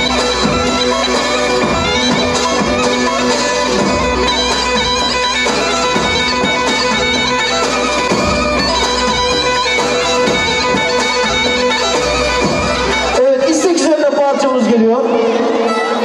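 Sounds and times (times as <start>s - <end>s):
shrill reed wind instrument: 0.0s - 13.2s.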